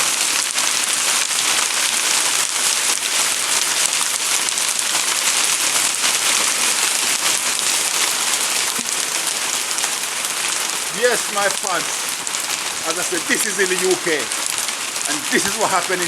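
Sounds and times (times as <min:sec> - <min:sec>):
hailstones pattering: 0:00.0 - 0:16.0.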